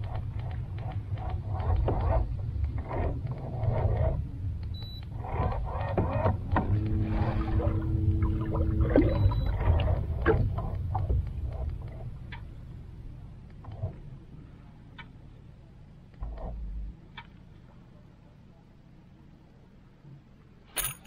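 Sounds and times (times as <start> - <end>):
steady pitched hum: 0.0 - 19.6.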